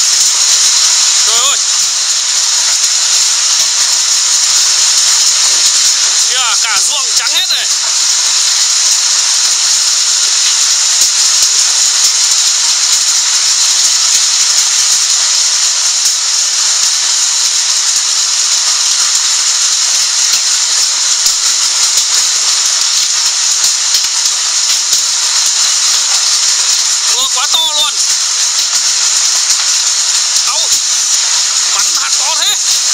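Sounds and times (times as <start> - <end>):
hail and rain pouring down: 0.0 - 32.9
hailstones striking: 0.0 - 32.9.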